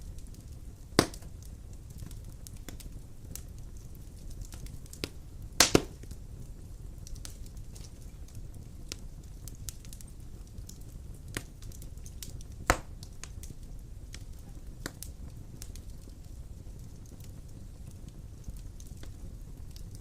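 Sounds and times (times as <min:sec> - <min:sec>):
fire rumbling: 0:00.0 - 0:20.0
wood crackling: 0:00.0 - 0:20.0.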